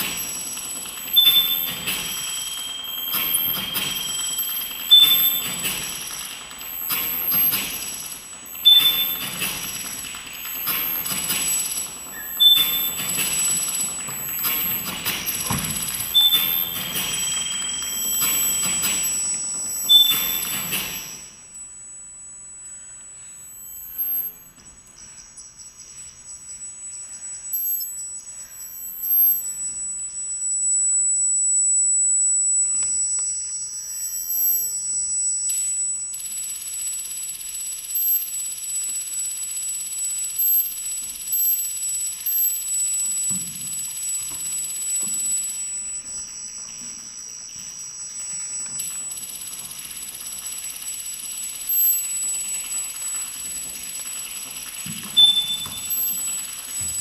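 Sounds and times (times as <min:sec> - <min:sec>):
piercing high-pitched tone: 0:00.0 - 0:57.0.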